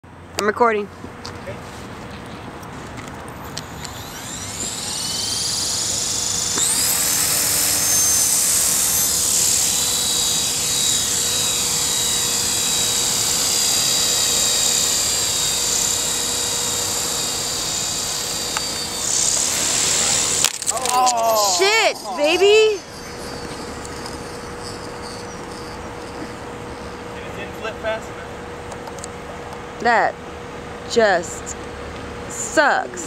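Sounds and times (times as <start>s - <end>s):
rotor blade noise: 2.7s - 30.2s
rc helicopter motor whine: 3.0s - 30.0s.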